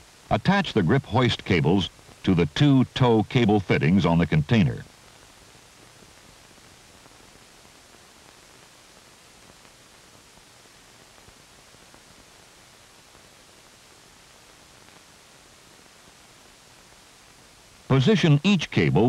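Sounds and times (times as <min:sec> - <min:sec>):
film soundtrack hiss: 0:00.0 - 0:19.0.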